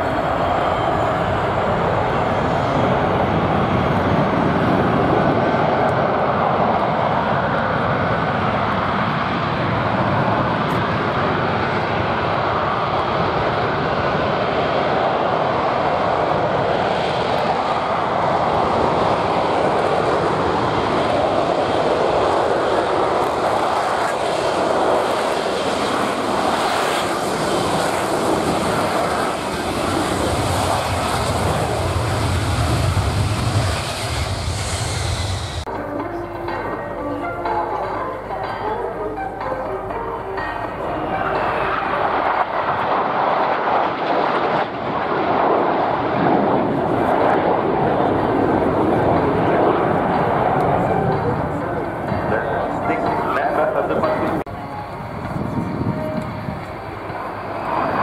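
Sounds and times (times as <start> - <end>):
jet engine roaring: 0.0 - 36.0, 39.1 - 58.0.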